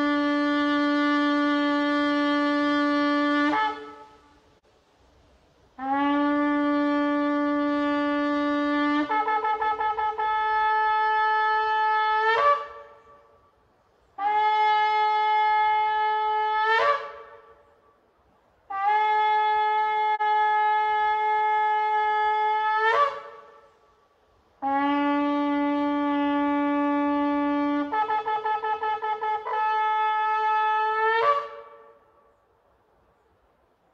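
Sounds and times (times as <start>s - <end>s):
shofar blasts: 0.0s - 4.4s, 5.8s - 13.6s, 14.2s - 17.9s, 18.7s - 23.9s, 24.5s - 32.4s.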